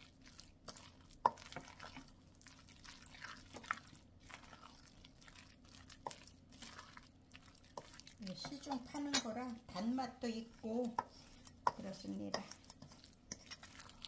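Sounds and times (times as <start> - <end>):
wet squelching stirring: 0.0 - 14.0.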